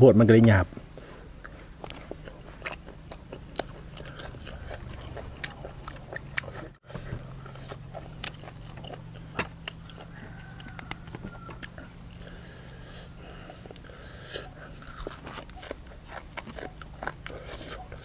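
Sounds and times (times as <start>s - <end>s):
close-miked chewing: 0.9s - 18.0s.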